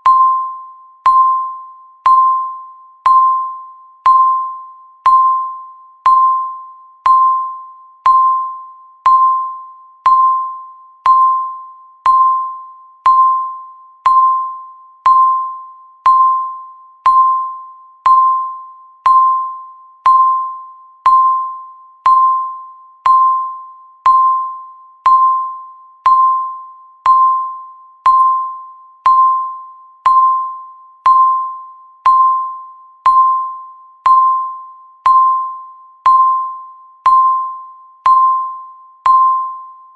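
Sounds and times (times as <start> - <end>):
timer beeps: 0.0 - 39.9.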